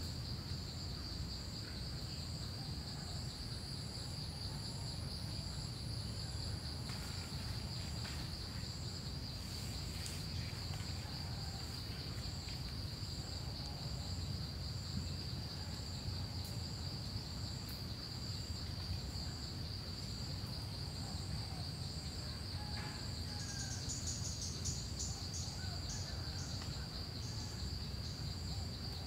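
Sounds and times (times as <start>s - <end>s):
insect steady high chirring: 0.0s - 29.0s
pulsing insect call: 0.0s - 29.0s.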